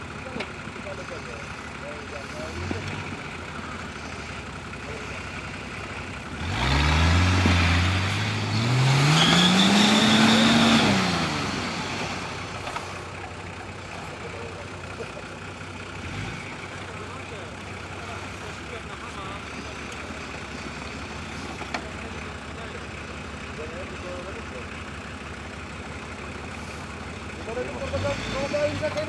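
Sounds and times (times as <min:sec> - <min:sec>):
engine revving under load: 0:00.0 - 0:29.0.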